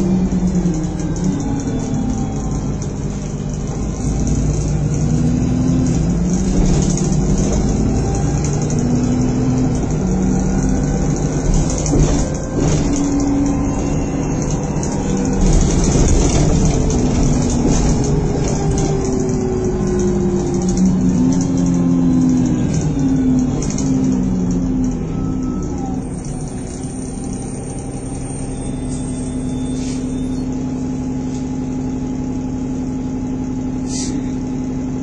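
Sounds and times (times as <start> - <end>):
bus diesel engine changing gears: 0.0 - 35.0.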